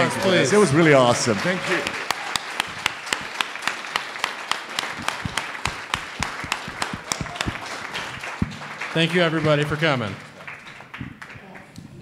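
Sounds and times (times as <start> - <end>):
audience applauding: 0.0 - 12.0
sharp hand claps: 1.4 - 12.0.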